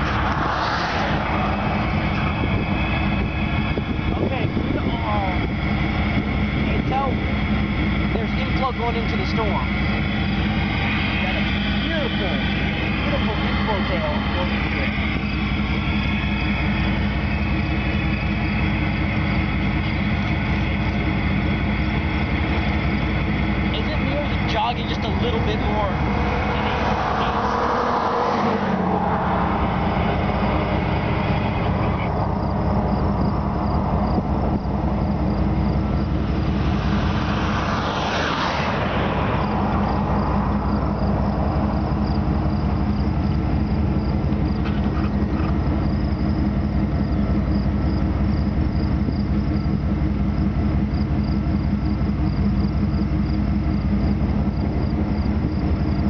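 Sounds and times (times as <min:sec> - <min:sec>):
insects chirping: 0:00.0 - 0:56.0
low engine hum: 0:00.0 - 0:56.0
vehicle passing on road: 0:00.0 - 0:56.0.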